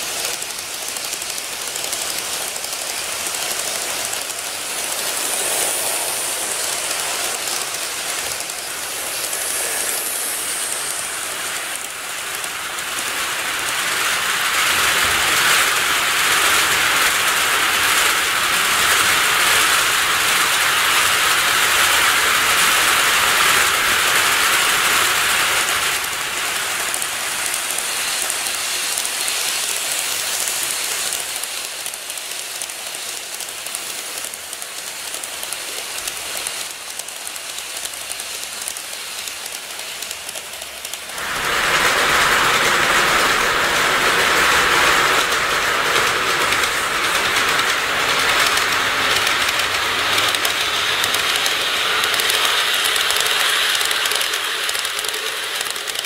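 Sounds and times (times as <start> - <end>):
model train running on track: 0.0 - 56.0.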